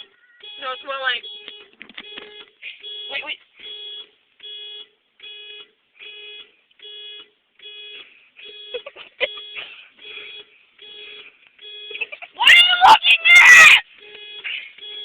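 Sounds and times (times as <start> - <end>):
car alarm beeping: 0.0 - 15.0.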